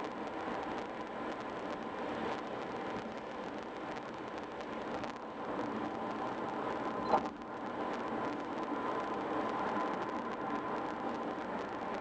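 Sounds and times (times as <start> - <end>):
car road and tyre noise: 0.0 - 12.0.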